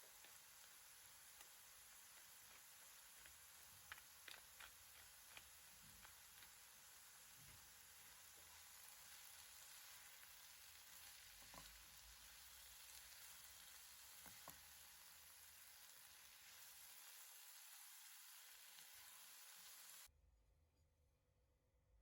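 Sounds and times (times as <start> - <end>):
food sizzling in a pan: 0.0 - 20.1.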